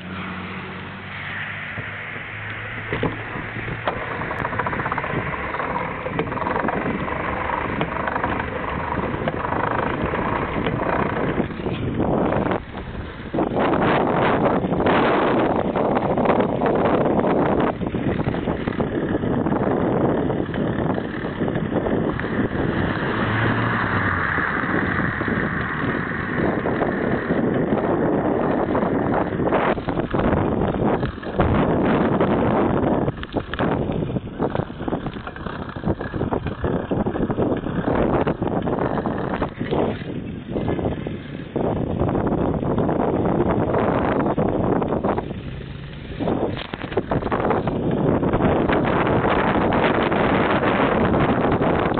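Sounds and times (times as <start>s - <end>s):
bike tyres rattling over brick paving: 0.0s - 51.9s
wind buffeting microphone: 0.0s - 51.9s.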